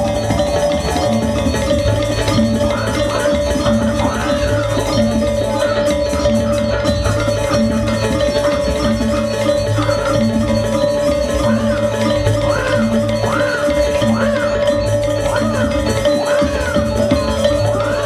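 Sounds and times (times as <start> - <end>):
gamelan ensemble playing: 0.0 - 18.0.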